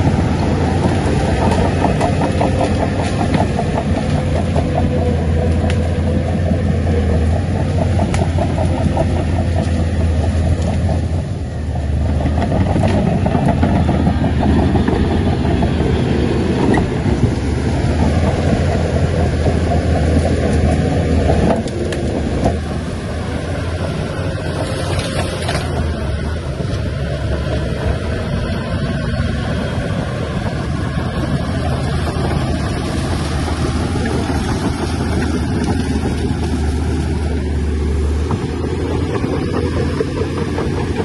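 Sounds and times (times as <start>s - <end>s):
heavy diesel engine droning: 0.0s - 41.0s.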